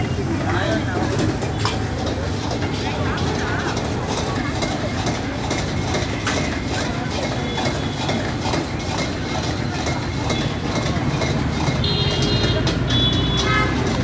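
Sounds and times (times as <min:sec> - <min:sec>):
street traffic engines: 0:00.0 - 0:14.0.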